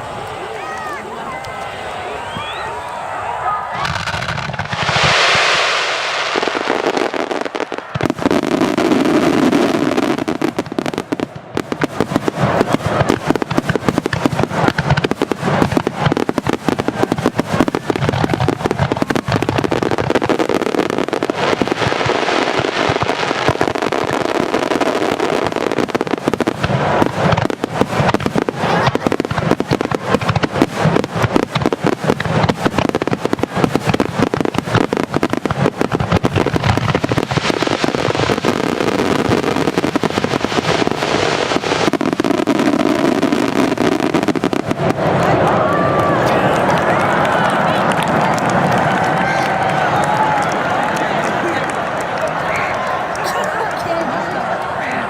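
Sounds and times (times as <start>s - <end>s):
fireworks bangs and crackles: 0.0s - 55.0s
noisy rush of fireworks: 0.0s - 55.0s.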